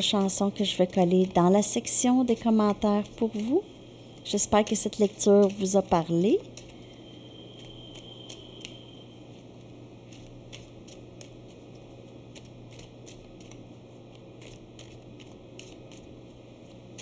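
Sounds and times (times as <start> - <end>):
cards being shuffled: 0.0 - 3.6, 4.6 - 7.0, 7.6 - 8.8, 9.6 - 17.0
steady low hum: 0.0 - 17.0.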